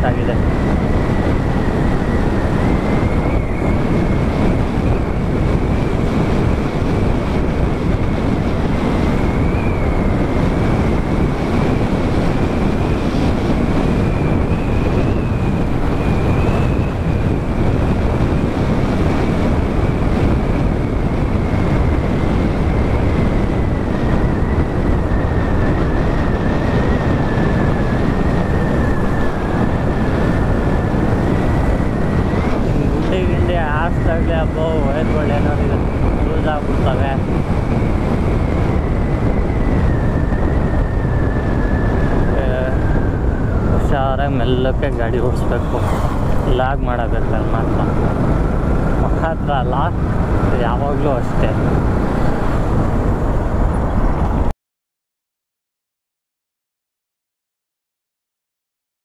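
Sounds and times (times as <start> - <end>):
faint high whine: 0.0 - 54.3
motorcycle engine and road noise: 0.0 - 54.5
wind rushing over microphone: 0.0 - 54.5.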